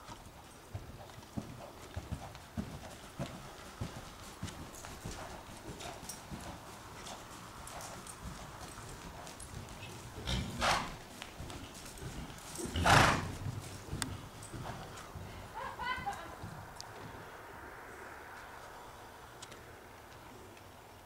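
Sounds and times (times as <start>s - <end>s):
horse trotting on soft footing: 0.0s - 21.0s.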